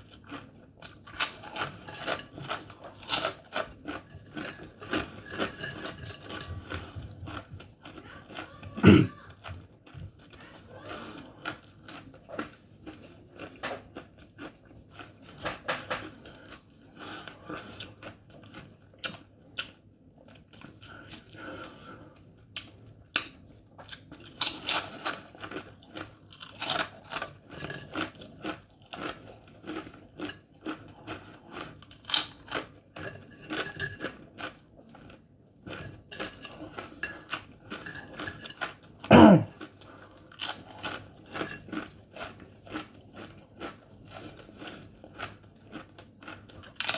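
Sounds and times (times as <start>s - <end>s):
person crunching chips: 0.0s - 22.0s, 22.6s - 46.9s.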